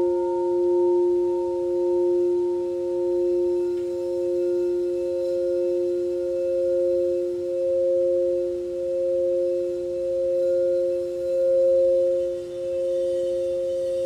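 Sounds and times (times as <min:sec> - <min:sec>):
singing bowl ringing: 0:00.0 - 0:14.0.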